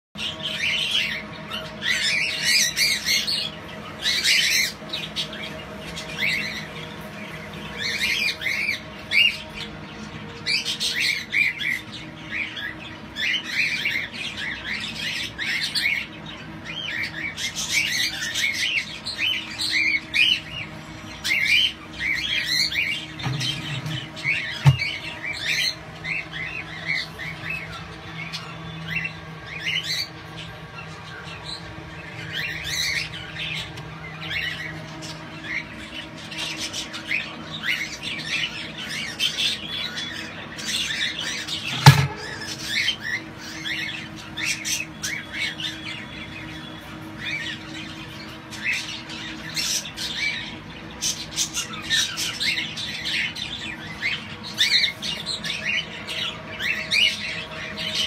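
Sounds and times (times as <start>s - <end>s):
cockatiels chirping: 0.3s - 58.0s.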